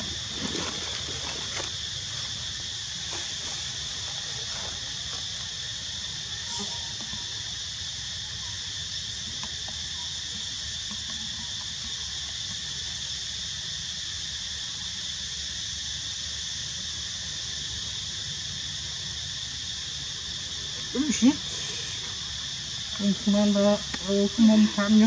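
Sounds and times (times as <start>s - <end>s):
insect chorus shrill ringing: 0.0s - 25.0s.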